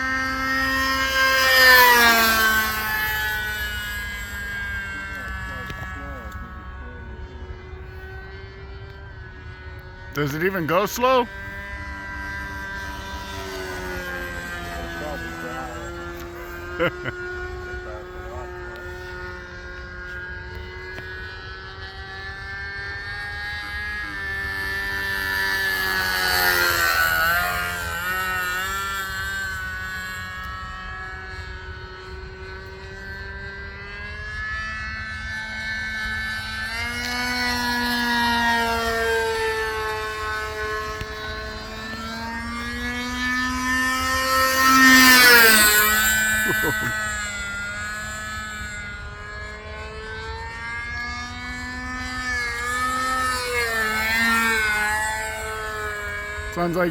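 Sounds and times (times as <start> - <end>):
model airplane engine buzzing: 0.0 - 56.9.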